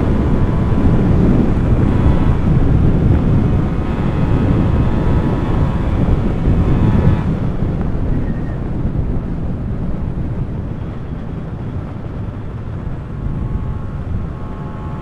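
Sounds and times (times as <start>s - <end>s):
two-stroke motorcycle engine: 0.0s - 15.0s
wind buffeting microphone: 0.0s - 15.0s.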